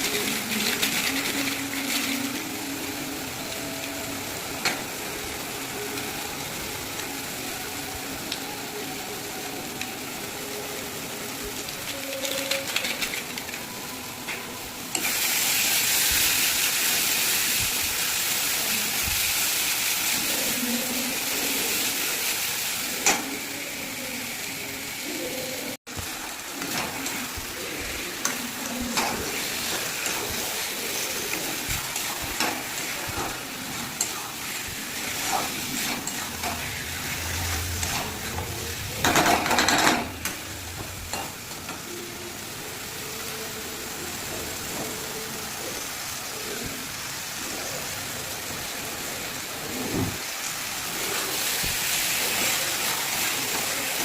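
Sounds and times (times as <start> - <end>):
chicken sizzling in hot oil: 0.0 - 54.0.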